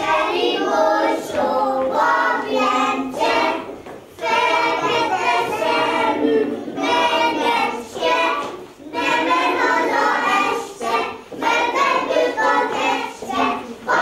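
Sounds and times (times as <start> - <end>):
children and women singing: 0.0 - 14.0.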